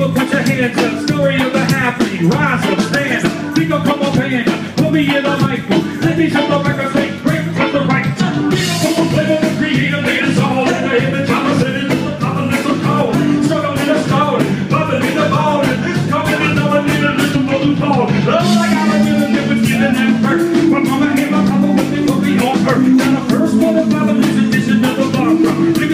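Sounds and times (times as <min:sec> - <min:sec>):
live band playing: 0:00.0 - 0:25.9.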